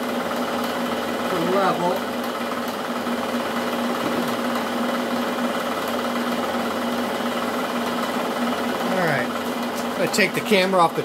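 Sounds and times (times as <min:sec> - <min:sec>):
milling machine running: 0:00.0 - 0:11.0.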